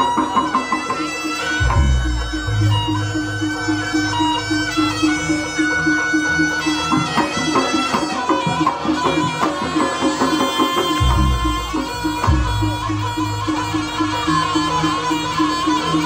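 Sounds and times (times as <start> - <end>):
drums: 0.0 - 16.0
gamelan repeated pitched notes: 0.0 - 16.0
shawm melody: 0.0 - 16.0.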